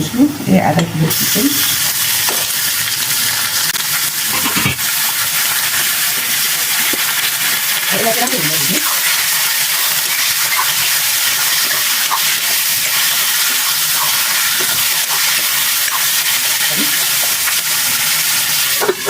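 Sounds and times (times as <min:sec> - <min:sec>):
chicken sizzling in oil: 0:00.1 - 0:19.0.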